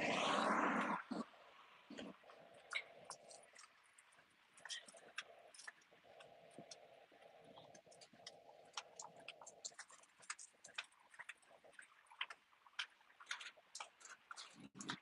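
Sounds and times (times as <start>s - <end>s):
faint steady hum: 0.0s - 15.0s
dog claws ticking on paving: 1.9s - 15.0s.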